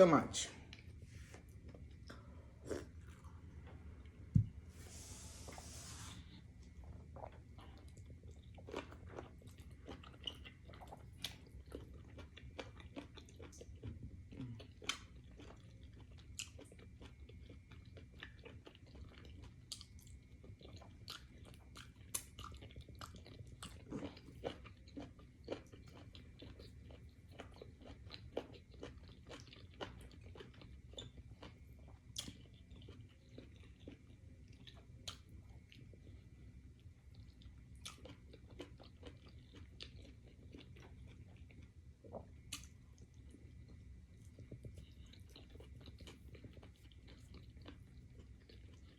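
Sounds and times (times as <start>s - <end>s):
mouth chewing and smacking: 6.6s - 48.9s.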